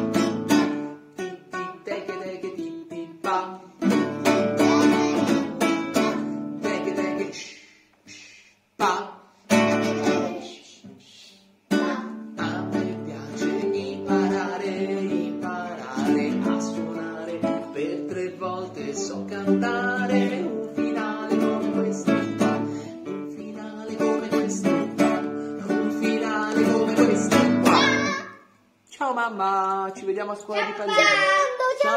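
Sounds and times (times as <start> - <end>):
strummed acoustic guitar: 0.0 - 7.5, 8.8 - 10.6, 11.7 - 28.5
man singing: 1.2 - 11.1, 11.7 - 28.2.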